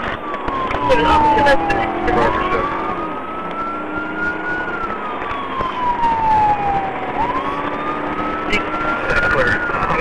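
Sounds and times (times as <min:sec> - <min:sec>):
police siren wailing: 0:00.0 - 0:10.0
road and engine noise: 0:00.0 - 0:10.0.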